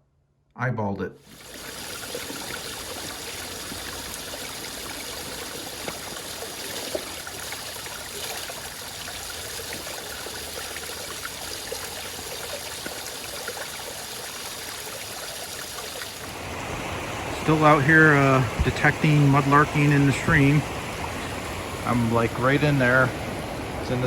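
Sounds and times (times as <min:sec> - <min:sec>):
creek water over rocks: 0:01.2 - 0:24.0.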